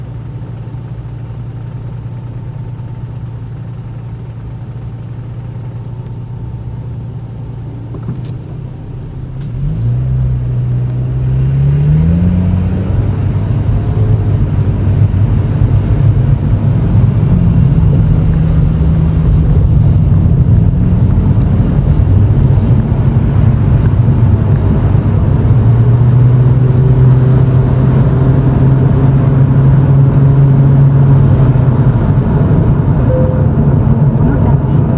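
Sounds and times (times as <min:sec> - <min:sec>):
car engine and exhaust: 0:00.0 - 0:34.9.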